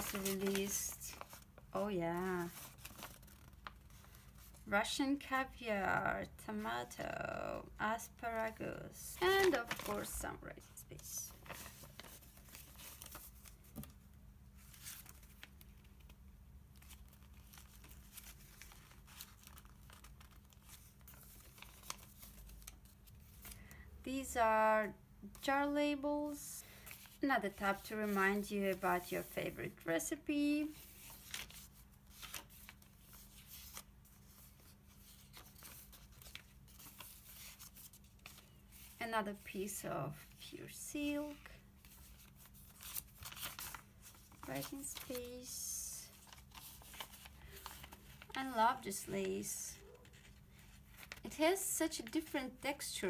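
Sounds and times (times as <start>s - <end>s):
paper pages rustling: 0.0s - 4.7s, 8.3s - 10.3s, 11.2s - 23.7s, 26.7s - 40.4s, 41.0s - 51.4s
faint steady hum: 0.0s - 53.0s.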